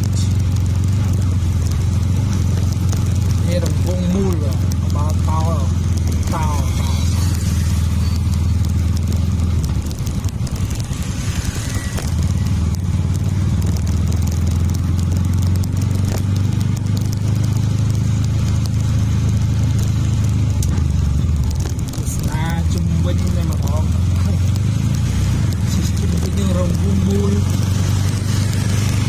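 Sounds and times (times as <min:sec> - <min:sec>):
road noise: 0:00.0 - 0:29.0
vehicle engine rumble: 0:00.0 - 0:29.0.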